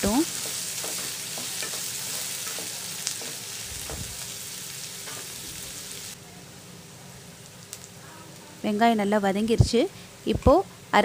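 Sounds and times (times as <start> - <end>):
onion sizzling in hot oil: 0.0 - 9.8.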